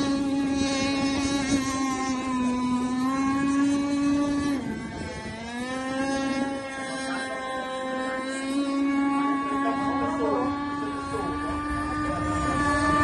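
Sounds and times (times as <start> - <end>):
speedboat engine high whine: 0.0 - 13.0.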